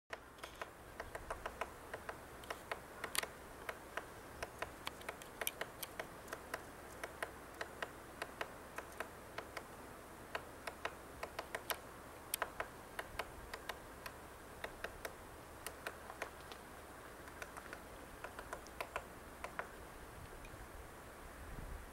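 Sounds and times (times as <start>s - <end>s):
woodpecker tapping on bark: 0.1s - 20.6s.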